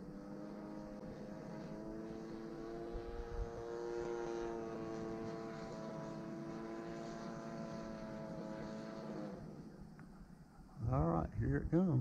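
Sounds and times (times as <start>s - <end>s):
model airplane engine running: 0.0s - 10.7s.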